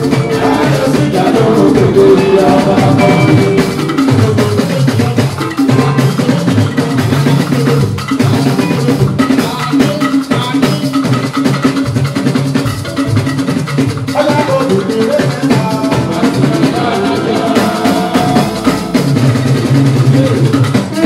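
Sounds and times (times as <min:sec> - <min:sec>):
man singing into microphone: 0:00.0 - 0:11.3, 0:14.1 - 0:21.0
drums: 0:00.0 - 0:21.0
electric guitars: 0:00.0 - 0:21.0
percussion: 0:00.0 - 0:21.0.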